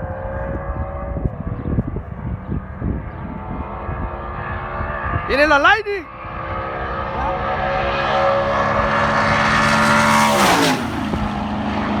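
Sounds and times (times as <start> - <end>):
pickup engines at full throttle: 0.0 - 12.0.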